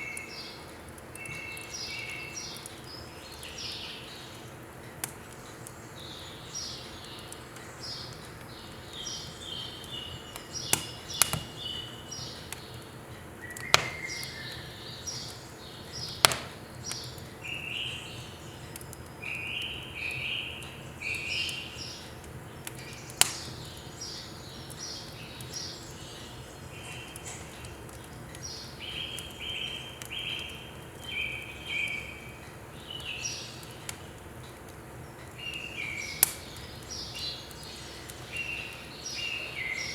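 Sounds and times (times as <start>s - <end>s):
small birds chirping: 0.0s - 39.9s
firewood popping in stove: 0.2s - 17.5s, 18.6s - 31.6s, 32.4s - 39.2s.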